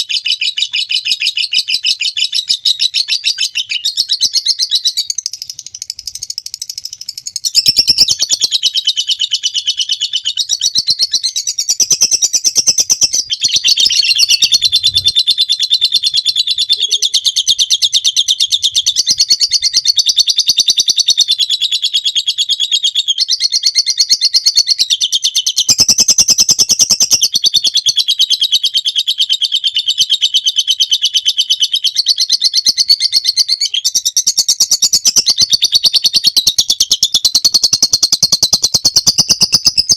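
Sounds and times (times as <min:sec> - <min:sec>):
lovebird chattering trill: 0:00.0 - 0:22.5, 0:25.4 - 0:39.9.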